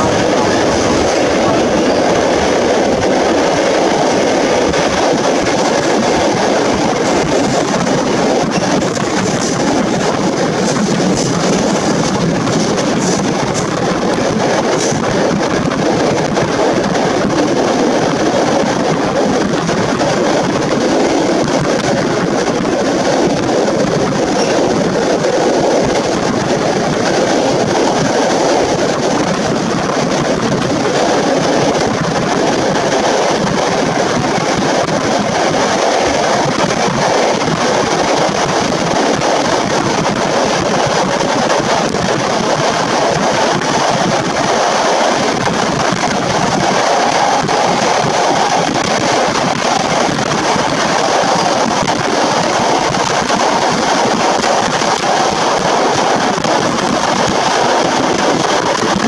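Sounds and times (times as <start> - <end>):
train wheels rumbling in tunnel: 0.0 - 59.0.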